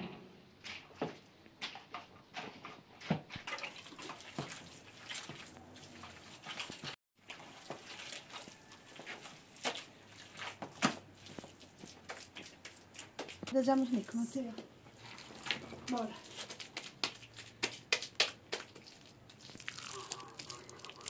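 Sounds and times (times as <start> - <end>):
wet mud squelching and scraping: 0.6 - 21.0.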